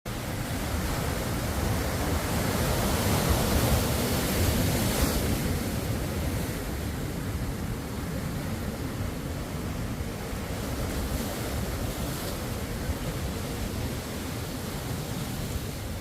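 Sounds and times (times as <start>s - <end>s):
ocean waves washing on shore: 0.1s - 16.0s.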